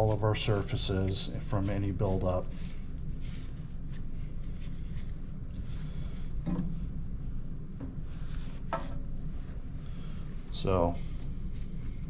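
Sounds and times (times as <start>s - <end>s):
cloth rubbing on metal: 0.0s - 7.4s, 8.0s - 12.0s
steady low hum: 0.0s - 12.0s.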